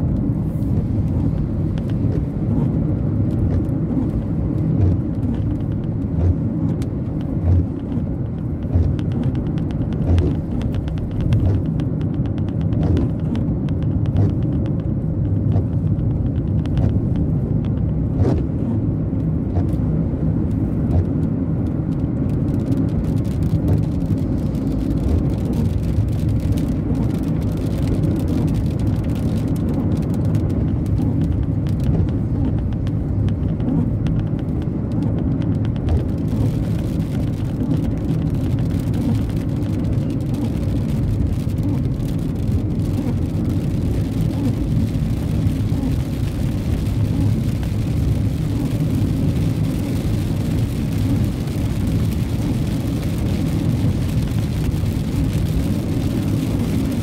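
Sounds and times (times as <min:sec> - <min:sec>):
raindrops ticking on windscreen: 0:00.0 - 0:57.0
road and engine noise in car: 0:00.0 - 0:57.0.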